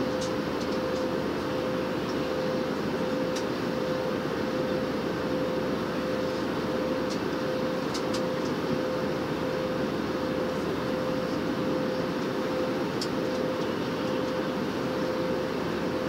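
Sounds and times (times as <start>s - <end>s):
constant hum: 0.0s - 16.0s
jet engine and airflow drone: 0.0s - 16.0s.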